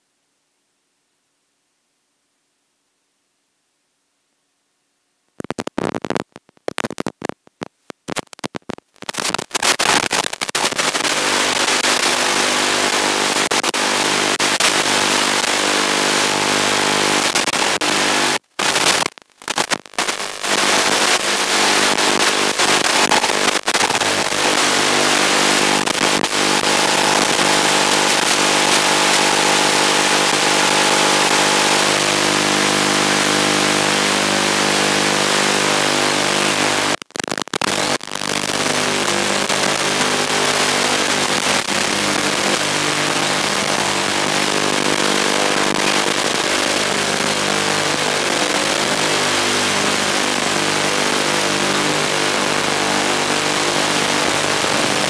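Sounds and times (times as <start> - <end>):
buzzing hum: 5.4 - 55.0
radio signal crackling: 5.4 - 55.0.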